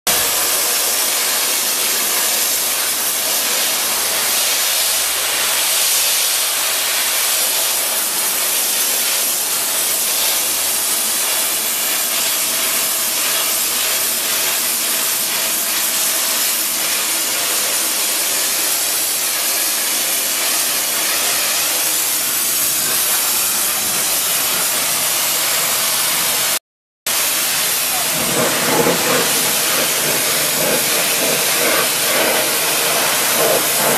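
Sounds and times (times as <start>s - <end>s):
abrasive blasting jet hissing: 0.1s - 33.9s.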